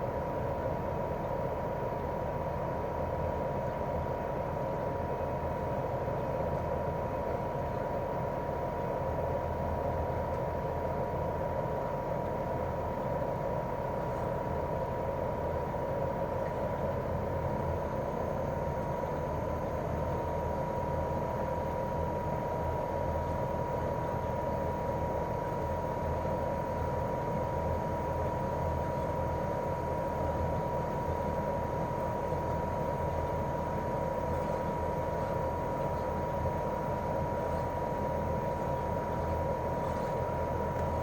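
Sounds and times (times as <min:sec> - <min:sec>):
air conditioner unit humming: 0:00.0 - 0:41.0
thin whine: 0:00.0 - 0:41.0.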